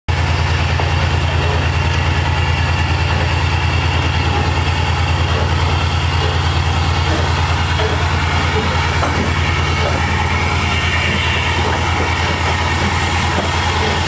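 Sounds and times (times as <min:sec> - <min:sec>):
diesel locomotive engine idling: 0:00.1 - 0:14.0.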